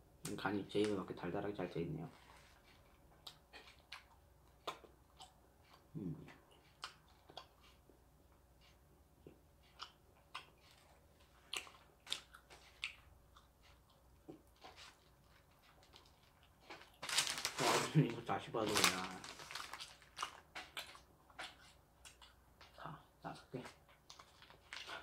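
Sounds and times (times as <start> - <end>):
biting and chewing dried squid: 2.5 - 17.8, 18.6 - 22.8, 23.6 - 25.0.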